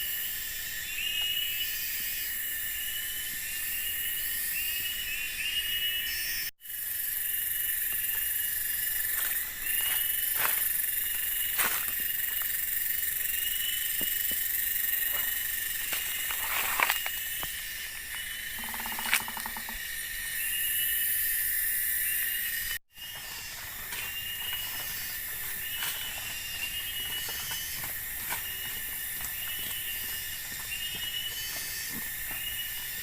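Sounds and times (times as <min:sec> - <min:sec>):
insect chorus buzzing: 0:00.0 - 0:33.0
short insect chirps: 0:00.0 - 0:33.0.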